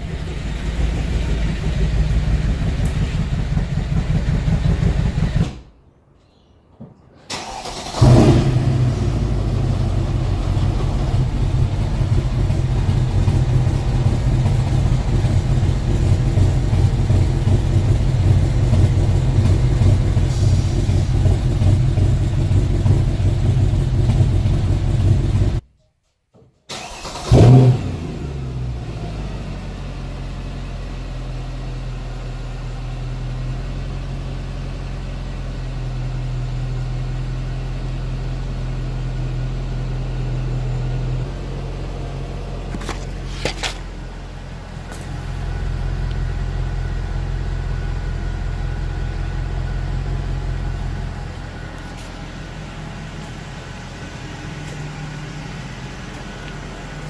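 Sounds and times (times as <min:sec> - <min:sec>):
car engine starting and idling: 0:00.0 - 0:05.7, 0:07.3 - 0:25.6, 0:26.7 - 0:57.0.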